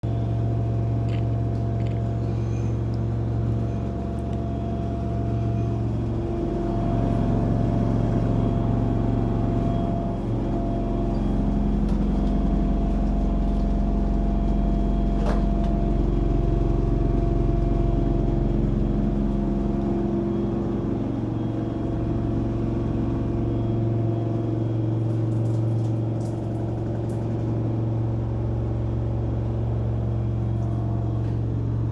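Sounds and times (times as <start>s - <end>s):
washing machine motor hum: 0.0s - 31.9s.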